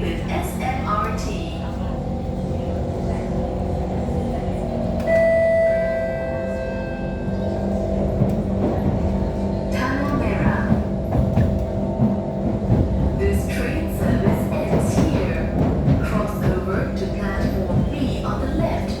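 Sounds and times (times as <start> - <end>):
metro train running gear humming: 0.0 - 19.0.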